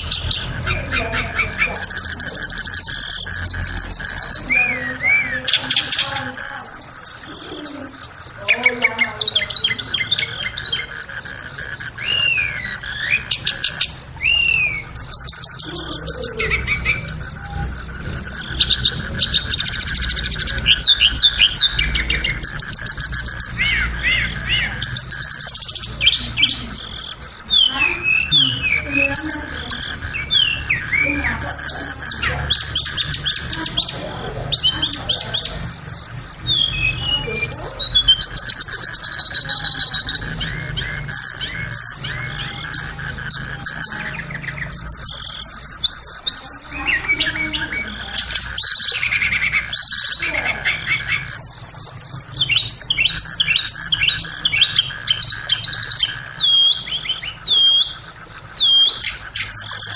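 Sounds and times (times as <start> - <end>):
bird singing whistled phrases: 0.0 - 59.9
steady hum: 0.0 - 59.9.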